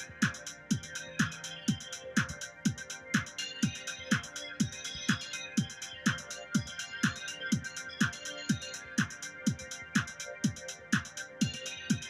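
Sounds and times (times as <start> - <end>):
electronic music: 0.0 - 12.0
hi-hat ticks: 0.0 - 12.0
kick drum beat: 0.0 - 12.0.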